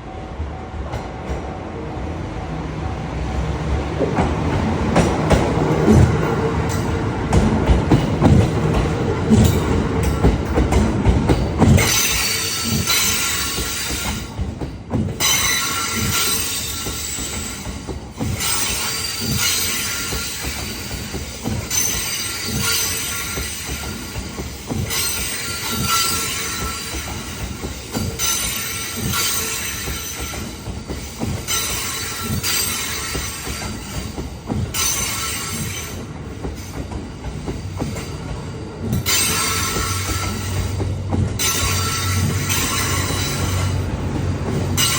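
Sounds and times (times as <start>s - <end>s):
train wheels clacking over rail joints: 3.7s - 44.9s.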